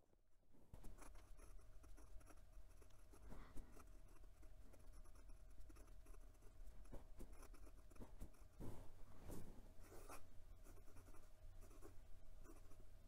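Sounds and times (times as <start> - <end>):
pen nib scratching on paper: 0.8 - 8.7, 9.8 - 12.8.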